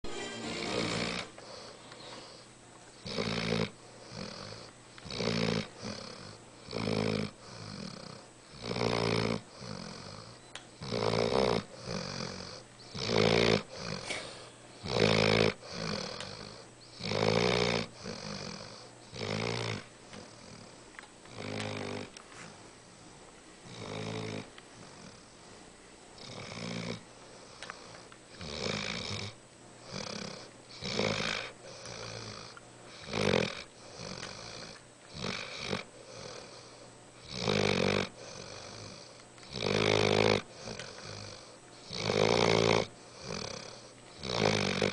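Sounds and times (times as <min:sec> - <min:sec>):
puppy snoring: 0:00.8 - 0:25.6, 0:26.2 - 0:44.9.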